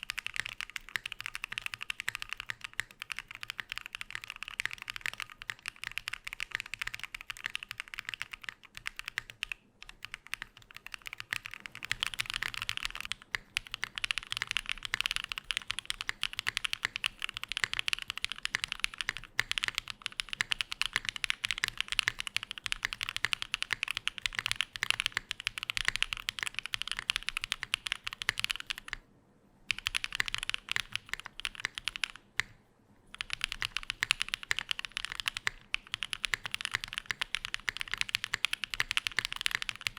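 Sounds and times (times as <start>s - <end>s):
mechanical keyboard typing: 0.0s - 29.0s, 29.7s - 39.9s.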